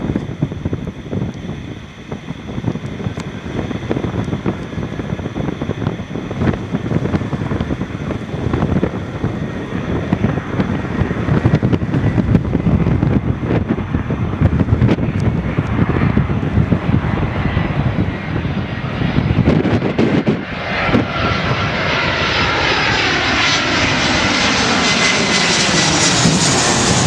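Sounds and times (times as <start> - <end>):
gusty wind buffeting microphone: 0.0 - 27.0.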